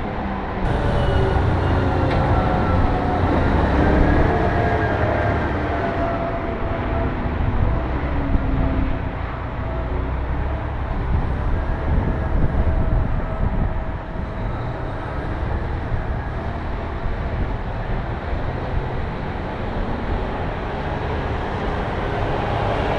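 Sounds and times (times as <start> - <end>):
diesel engine rumbling: 0.0 - 22.9.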